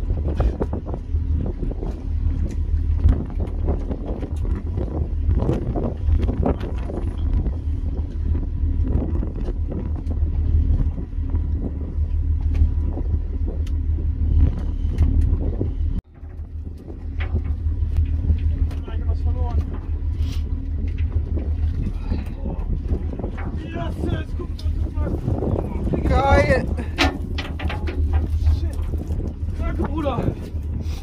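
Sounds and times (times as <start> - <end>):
boat engine rumbling: 0.0 - 31.0
wind buffeting microphone: 0.0 - 31.0.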